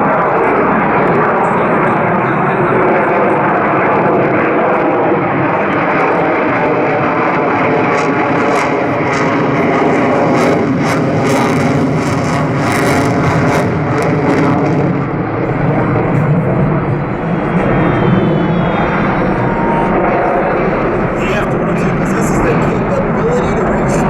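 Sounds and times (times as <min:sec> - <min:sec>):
jet engines flying past: 0:00.0 - 0:24.0.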